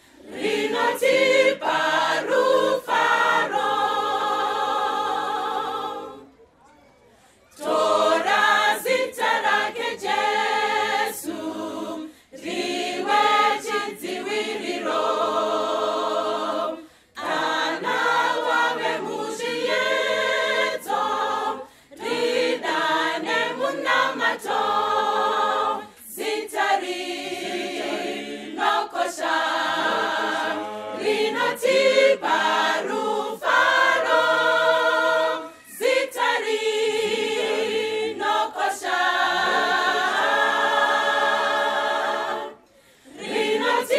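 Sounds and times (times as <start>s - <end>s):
choir singing a hymn: 0.0s - 6.3s, 7.5s - 43.9s.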